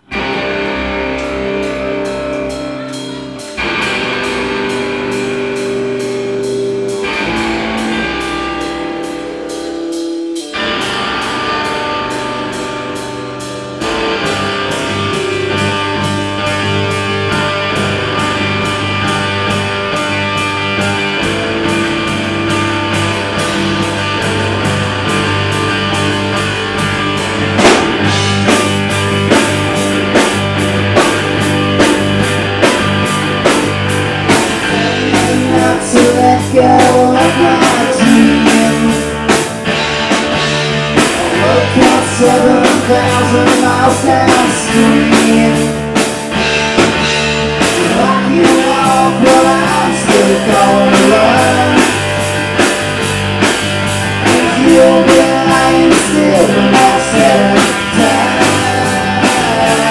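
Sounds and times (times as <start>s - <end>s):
drums: 0.0s - 59.9s
electric guitar chords: 0.0s - 59.9s
rock band playing: 0.0s - 59.9s.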